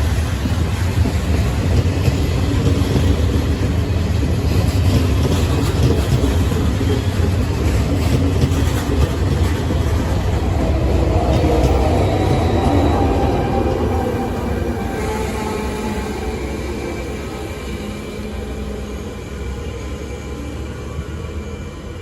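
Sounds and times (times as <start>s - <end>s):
passenger train rumbling on rails: 0.0s - 22.0s.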